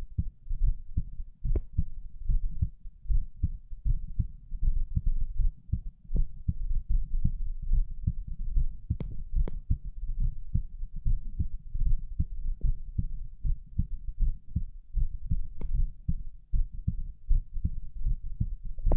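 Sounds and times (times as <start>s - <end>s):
heart beating: 0.0s - 18.9s.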